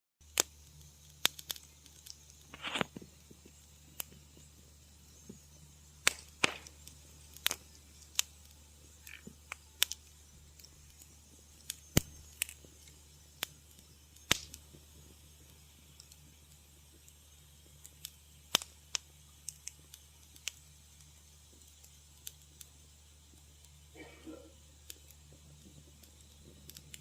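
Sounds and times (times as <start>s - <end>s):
wood fire crackling: 0.2s - 27.0s.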